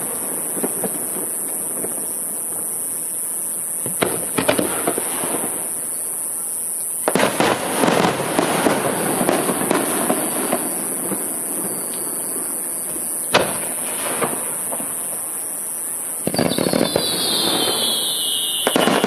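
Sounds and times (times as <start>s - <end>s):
fireworks cracking and crackling: 0.0s - 19.0s.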